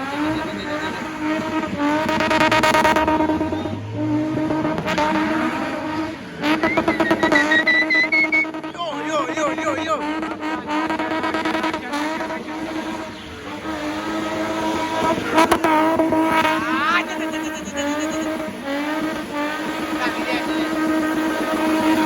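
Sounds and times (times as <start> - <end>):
tyre squeal: 0.0 - 10.3, 11.5 - 22.0
car engine revving: 0.0 - 22.0.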